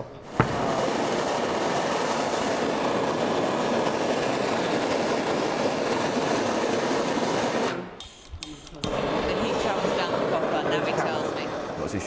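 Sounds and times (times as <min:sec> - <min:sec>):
gas blowtorch hissing: 0:00.0 - 0:12.0.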